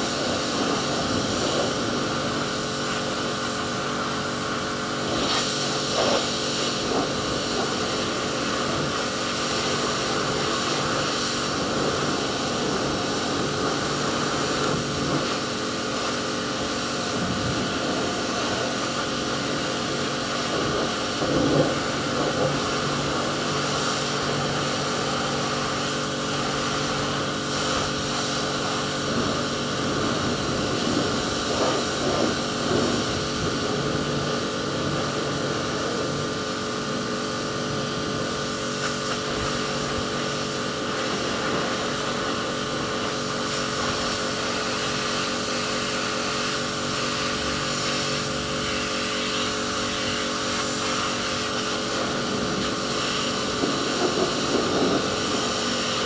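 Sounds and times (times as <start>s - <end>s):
pressure washer motor hum: 0.0s - 56.0s
water jet hissing: 0.0s - 56.0s.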